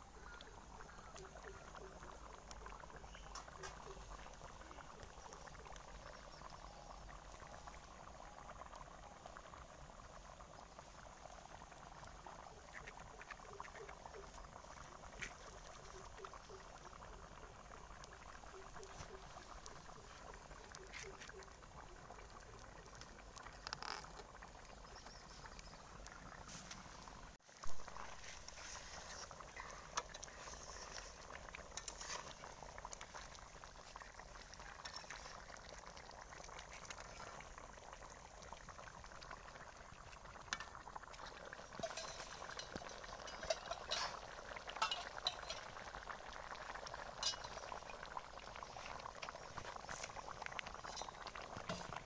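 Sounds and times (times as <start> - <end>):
curry bubbling in a pot: 0.0 - 52.0.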